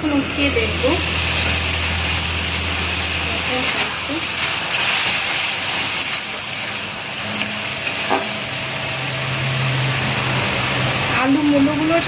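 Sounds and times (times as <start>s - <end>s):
low hum: 0.0s - 11.2s
food sizzling in a pan: 0.0s - 12.0s.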